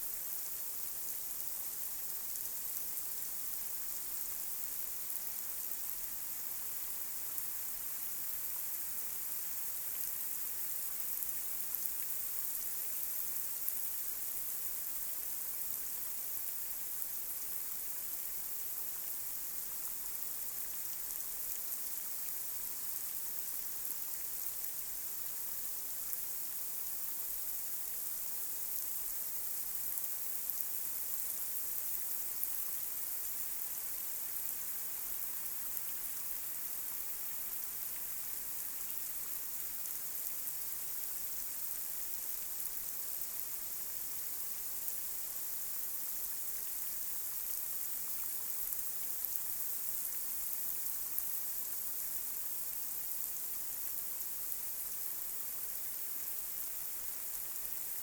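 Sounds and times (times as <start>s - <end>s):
light rain hissing: 0.0s - 58.0s.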